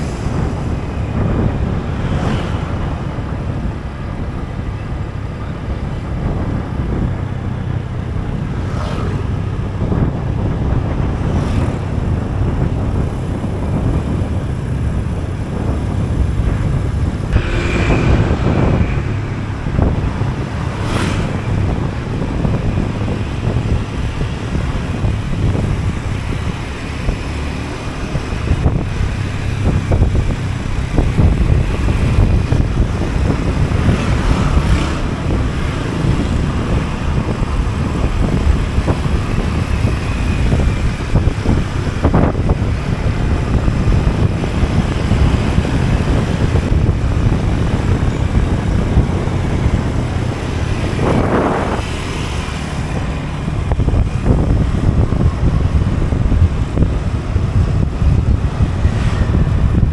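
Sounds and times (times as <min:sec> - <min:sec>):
scooter engine rumble: 0:00.0 - 0:59.9
tyres on road: 0:00.0 - 0:59.9
wind on microphone: 0:00.0 - 0:59.9.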